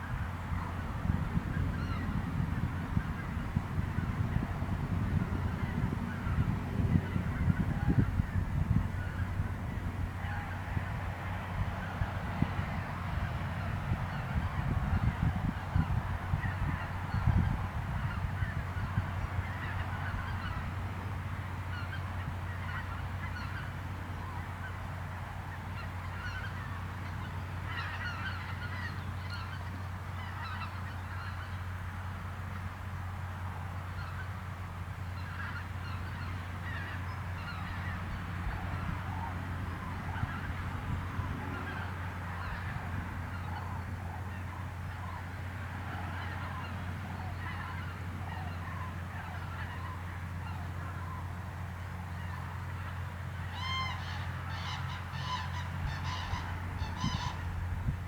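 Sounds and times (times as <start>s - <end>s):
geese and cranes honking: 0.0s - 58.0s.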